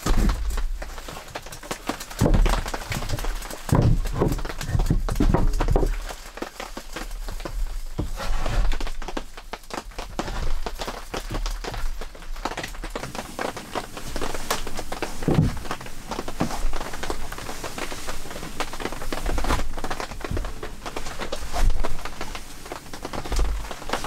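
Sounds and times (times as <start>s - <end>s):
firewood logs knocking together: 0.0s - 24.0s.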